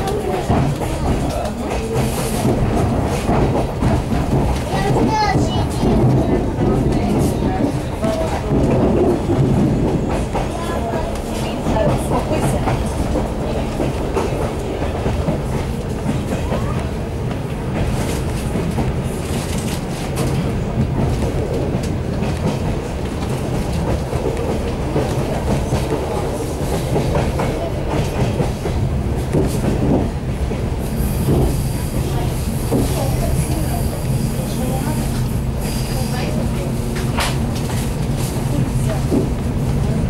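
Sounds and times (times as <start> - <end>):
train rumble from inside carriage: 0.0 - 40.0.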